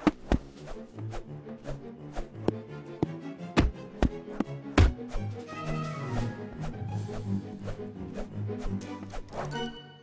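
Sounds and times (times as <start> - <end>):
orchestral music with sharp hits: 0.1 - 10.0.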